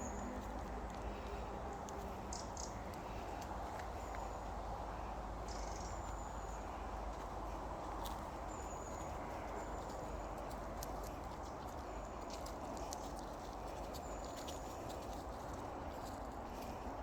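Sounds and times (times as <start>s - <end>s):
crackles underfoot: 0.0s - 17.0s
outdoor noise: 0.0s - 17.0s
small birds chirping: 0.0s - 17.0s.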